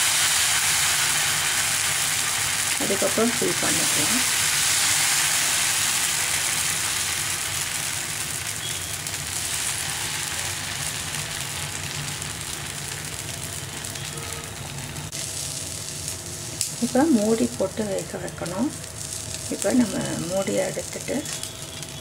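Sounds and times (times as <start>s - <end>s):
batter sizzling on a hot pan: 0.0s - 22.0s.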